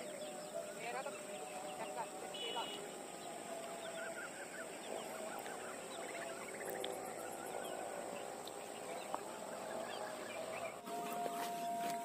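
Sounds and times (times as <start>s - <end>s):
small birds chirping: 0.0s - 12.0s
steady high-pitched hiss: 0.0s - 12.0s.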